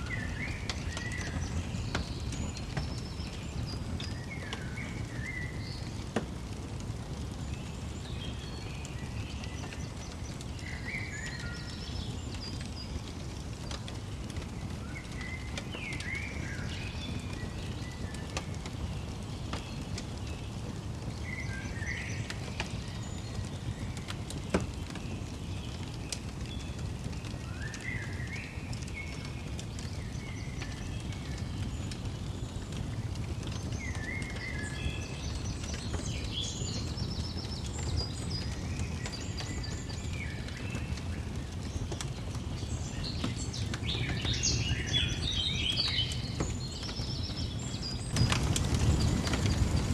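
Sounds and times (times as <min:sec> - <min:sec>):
fire crackling and popping: 0:00.0 - 0:49.9
songbirds calling: 0:00.0 - 0:49.9.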